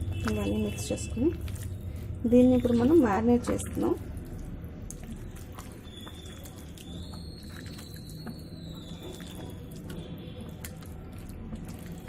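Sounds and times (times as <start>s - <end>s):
wet squishing of marinade: 0.0s - 12.0s.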